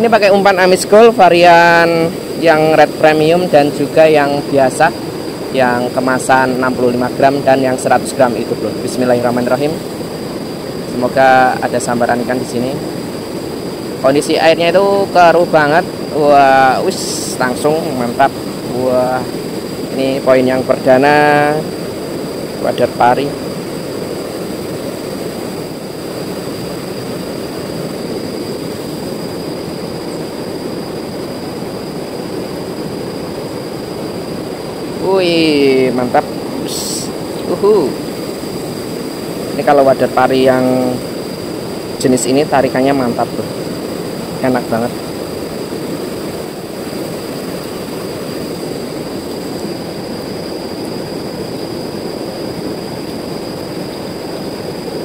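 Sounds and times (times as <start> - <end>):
river water rushing over rapids: 0.0 - 55.0.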